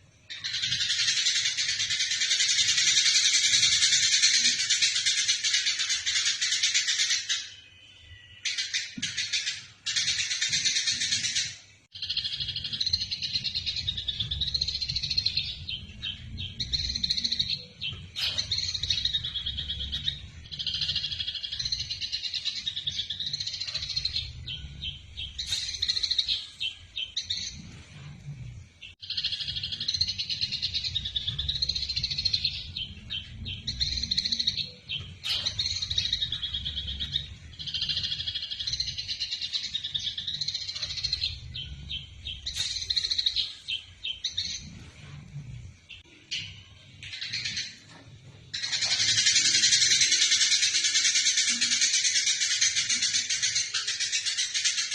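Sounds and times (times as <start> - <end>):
sparrows chirping: 0.0 - 54.9.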